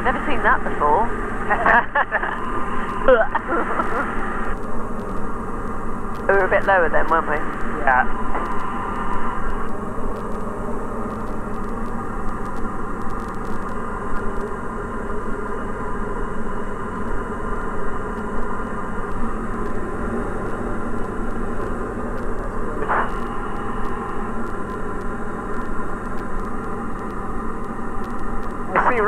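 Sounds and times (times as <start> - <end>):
aircraft engine droning in cabin: 0.0 - 29.0.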